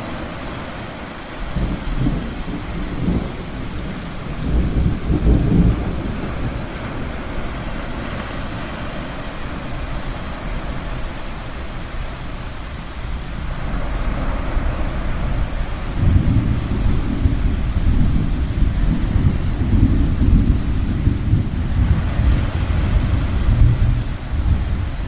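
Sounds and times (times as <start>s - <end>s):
ocean waves: 0.0s - 25.0s
distant thunder rumble: 1.4s - 25.0s.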